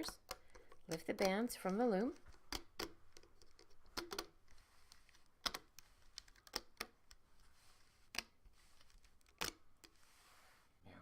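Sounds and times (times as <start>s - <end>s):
loom bands clicking and snapping: 0.0s - 7.3s, 8.1s - 9.9s.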